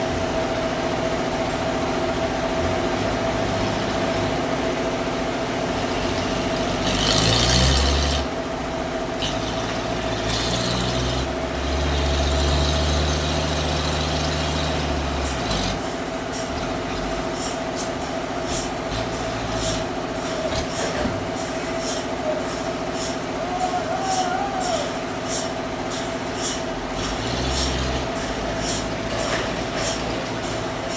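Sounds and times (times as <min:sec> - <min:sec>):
band saw machinery humming: 0:00.0 - 0:30.9.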